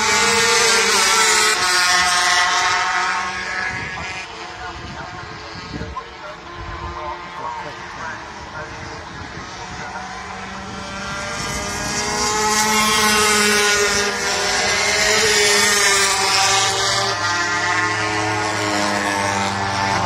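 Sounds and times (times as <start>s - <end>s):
racing motorcycles passing at speed: 0.0s - 20.0s.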